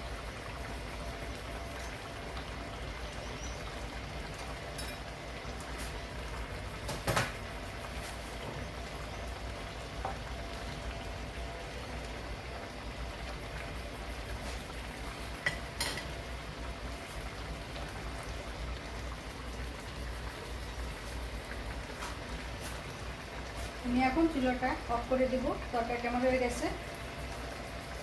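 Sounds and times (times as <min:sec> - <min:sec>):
curry sizzling and bubbling: 0:00.0 - 0:28.0.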